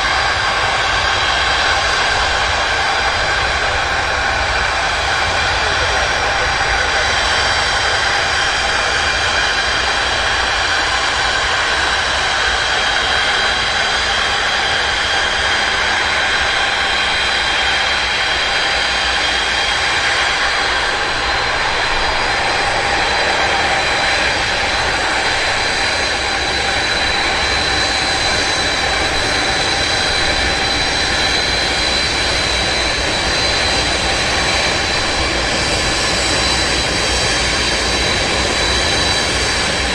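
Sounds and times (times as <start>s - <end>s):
jet engines roaring with whine: 0.0s - 39.9s.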